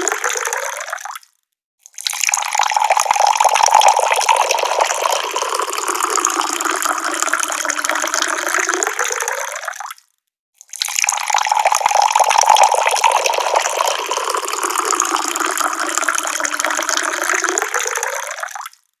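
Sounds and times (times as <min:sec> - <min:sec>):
water pouring from a tap: 0:00.0 - 0:01.2, 0:01.9 - 0:10.0, 0:10.6 - 0:18.8.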